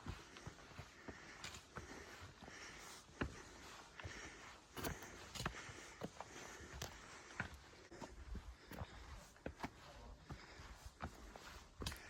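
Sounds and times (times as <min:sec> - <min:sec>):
faint footsteps on trail: 0:00.0 - 0:12.0.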